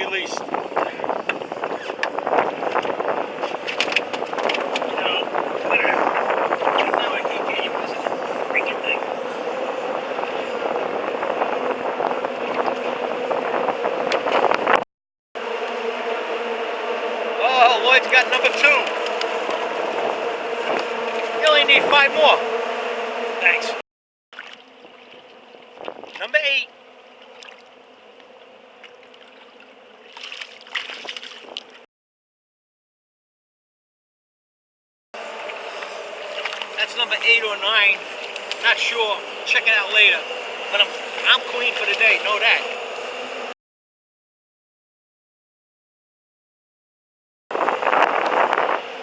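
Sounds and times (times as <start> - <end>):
boat engine humming: 0.0 - 14.8, 15.4 - 31.9, 35.2 - 43.6, 47.5 - 49.0
water noise: 0.0 - 14.8, 15.4 - 31.9, 35.2 - 43.5, 47.5 - 49.0
wind: 0.0 - 14.8, 15.4 - 31.9, 35.2 - 43.6, 47.5 - 49.0.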